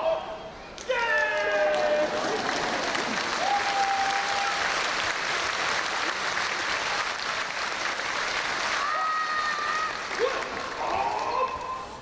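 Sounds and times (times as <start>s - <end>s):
audience applauding: 1.4s - 11.7s.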